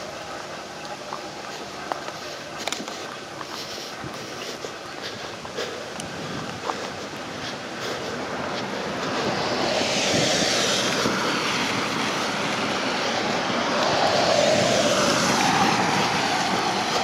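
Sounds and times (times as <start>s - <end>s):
traffic on wet road: 0.0s - 17.0s
tyre hiss on wet road: 0.0s - 17.0s.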